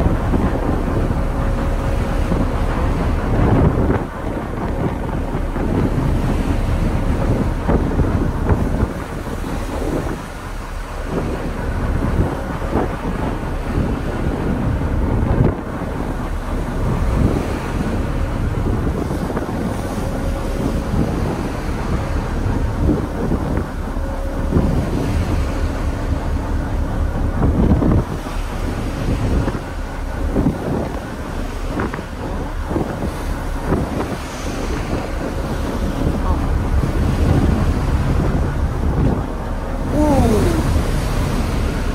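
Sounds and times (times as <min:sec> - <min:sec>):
ferry engine running: 0:00.0 - 0:41.9
water rushing along hull: 0:00.0 - 0:41.9
wind buffeting microphone: 0:00.0 - 0:41.9.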